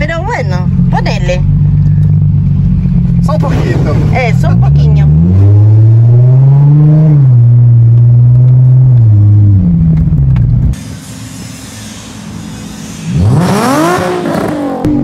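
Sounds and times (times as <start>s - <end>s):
car engine under throttle: 0.0s - 15.0s.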